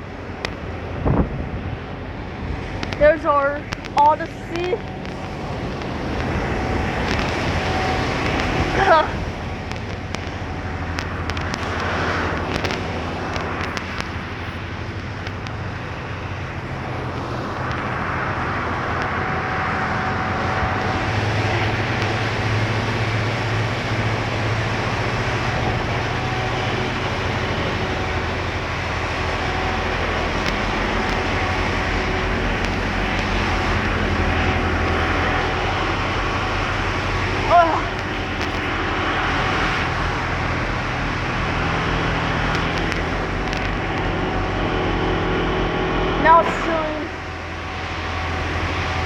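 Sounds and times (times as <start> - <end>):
motor hum with faint whine: 0.0 - 49.0
car wash water rushing: 4.8 - 44.6.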